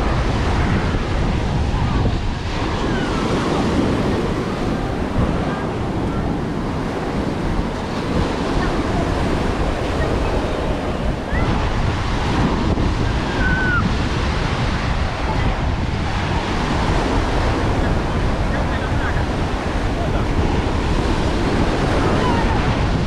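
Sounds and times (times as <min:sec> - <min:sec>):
ocean surf on beach: 0:00.0 - 0:23.0
wind buffeting microphone: 0:00.0 - 0:23.0.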